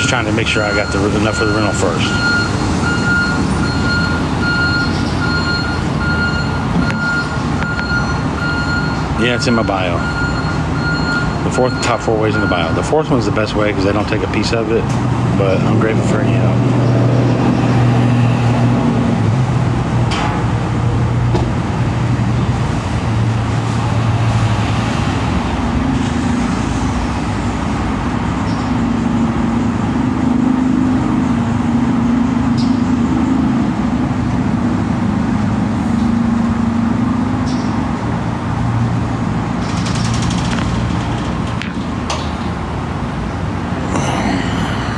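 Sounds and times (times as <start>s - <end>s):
road traffic noise: 0.0s - 44.9s.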